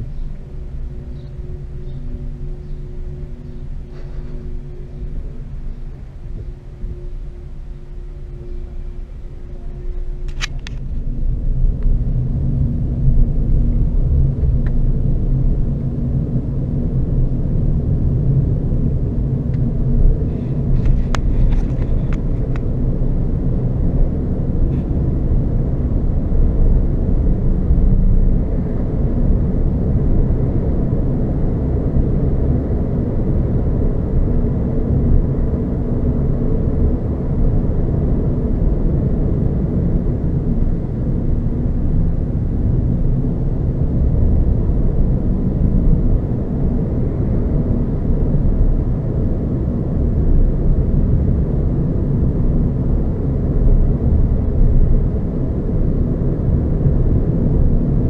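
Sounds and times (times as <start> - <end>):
road and tyre rumble: 0.0 - 58.0.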